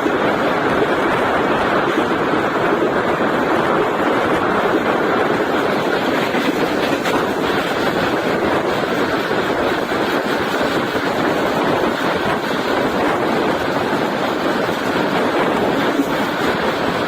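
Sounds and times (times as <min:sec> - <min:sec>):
passenger train rumbling at speed: 0:00.0 - 0:17.0.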